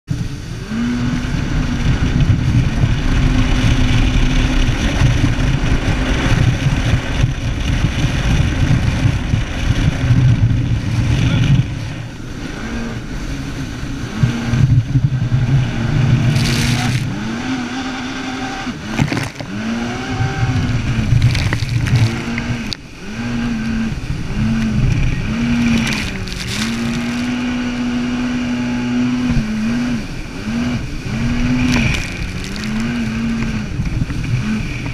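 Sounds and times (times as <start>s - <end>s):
jet ski engine running: 0.1s - 34.9s.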